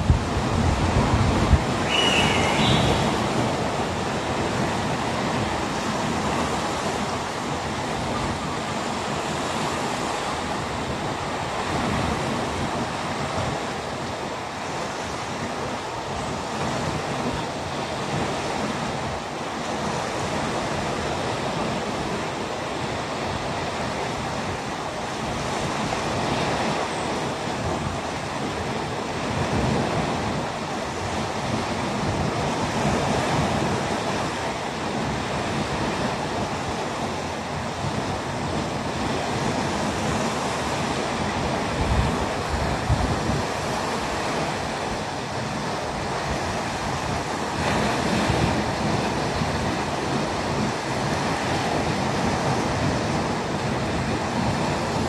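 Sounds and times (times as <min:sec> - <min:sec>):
small waves rushing: 0:00.0 - 0:55.0.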